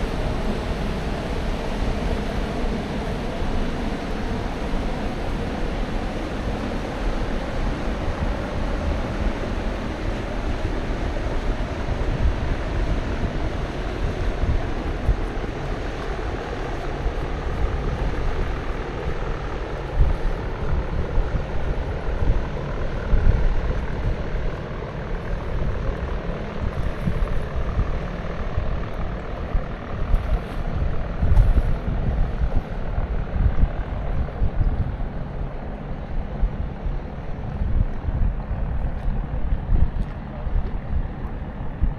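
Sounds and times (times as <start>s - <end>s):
steady low rumble: 0.0s - 41.9s
wind buffeting microphone: 0.0s - 41.9s.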